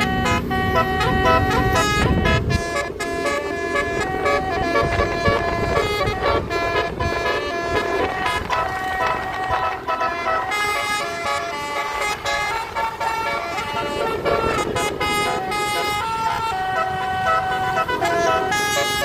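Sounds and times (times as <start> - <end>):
bus multi-tone air horn melody: 0.0 - 19.0
bus rumble: 0.0 - 19.0.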